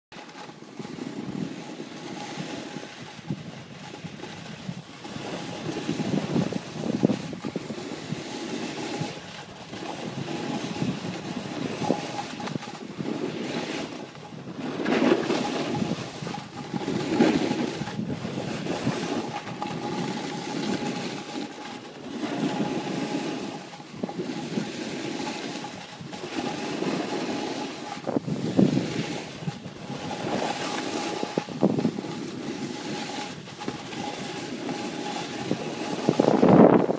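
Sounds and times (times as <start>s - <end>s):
ski edges scraping snow: 0.2s - 36.9s
wind buffeting microphone: 0.7s - 36.9s.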